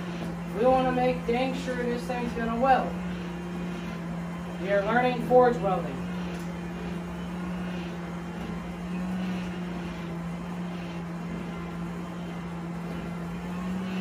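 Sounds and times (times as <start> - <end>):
forge air blower humming: 0.0 - 14.0.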